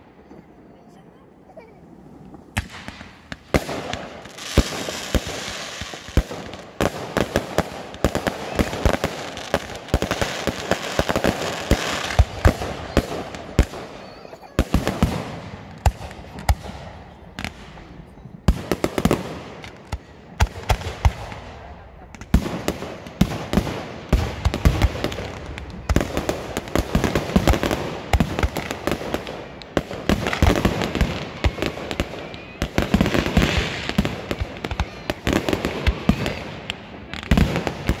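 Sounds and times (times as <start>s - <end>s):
fireworks bursting with sharp bangs: 0.0s - 38.0s.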